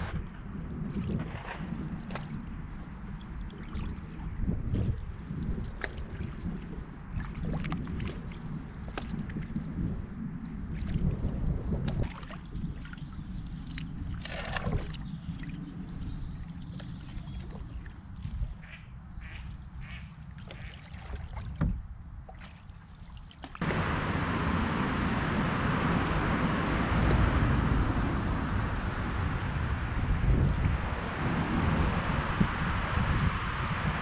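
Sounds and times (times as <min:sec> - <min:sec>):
paddle water splashes: 0:00.0 - 0:09.9, 0:10.6 - 0:34.0
wind rumbling on microphone: 0:00.0 - 0:22.4, 0:23.6 - 0:34.0
rush of wind and water: 0:00.0 - 0:34.0.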